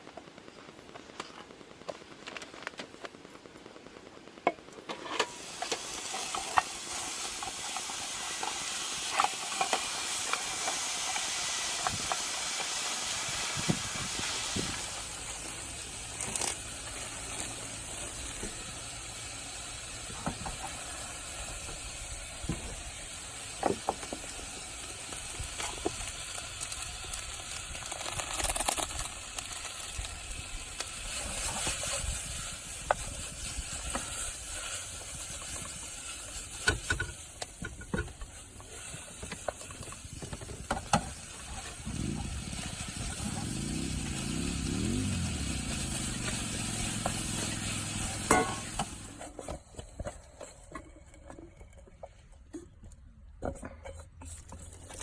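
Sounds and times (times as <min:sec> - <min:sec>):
steady hissing noise: 0:00.0 - 0:52.3.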